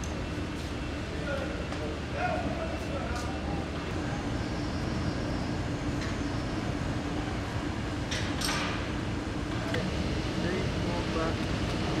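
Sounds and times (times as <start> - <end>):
machine hall hum: 0.0 - 12.0.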